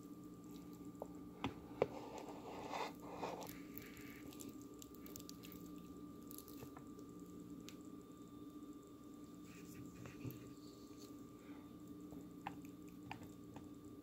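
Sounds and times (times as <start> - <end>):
soft squishing of potato clumps: 0.0 - 8.0, 8.6 - 13.8.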